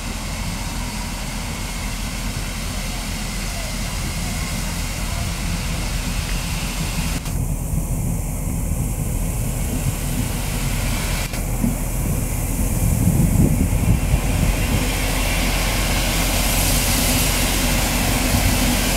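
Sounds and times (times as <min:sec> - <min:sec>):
steam escaping: 0:00.0 - 0:18.9
steam locomotive rumbling: 0:00.0 - 0:18.9.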